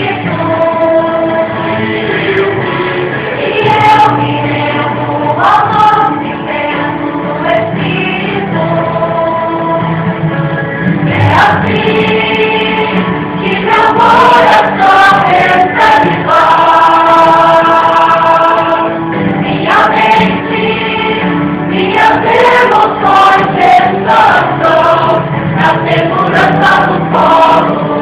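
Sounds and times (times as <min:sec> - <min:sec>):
choir singing gospel song: 0:00.0 - 0:10.3, 0:11.0 - 0:28.0
musical accompaniment: 0:00.0 - 0:28.0.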